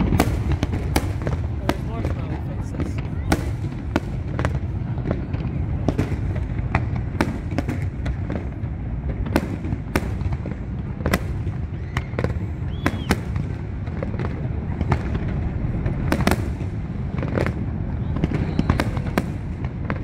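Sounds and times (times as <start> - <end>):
fireworks bangs and cracks: 0.0 - 20.0.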